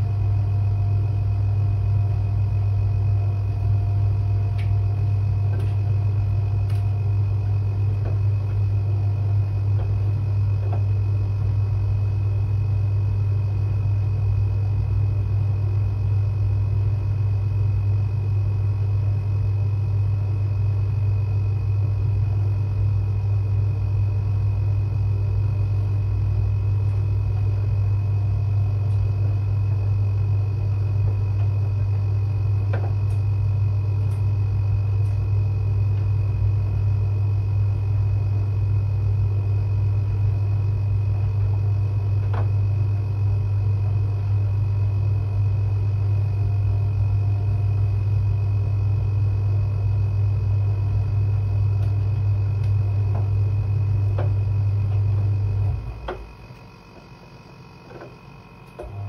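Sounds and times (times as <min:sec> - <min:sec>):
faint high whine: 0:00.0 - 0:59.0
washing machine humming: 0:00.0 - 0:59.0.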